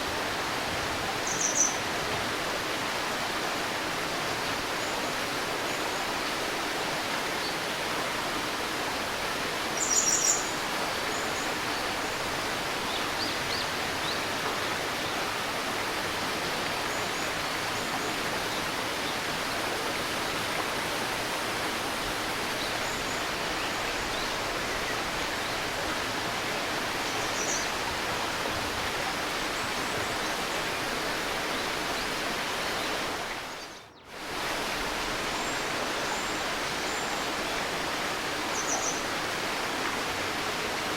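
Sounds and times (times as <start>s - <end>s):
river babbling: 0.0s - 40.9s.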